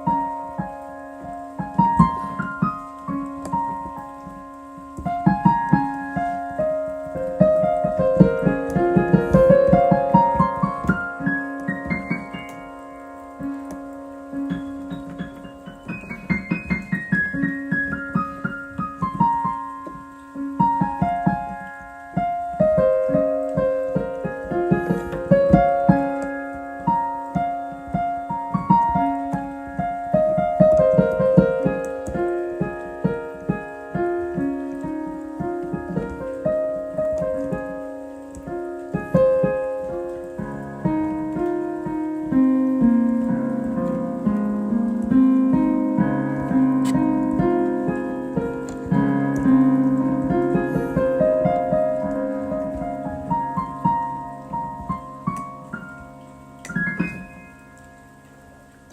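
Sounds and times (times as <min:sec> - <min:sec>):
solo piano: 0:00.0 - 0:58.9.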